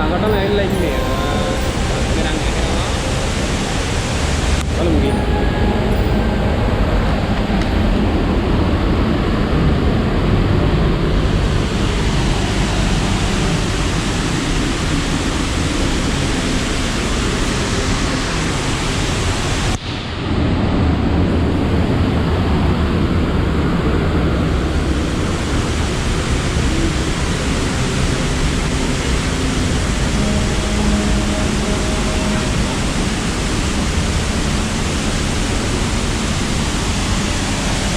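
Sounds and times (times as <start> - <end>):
waterfall rushing: 0.0 - 20.5, 22.9 - 37.9.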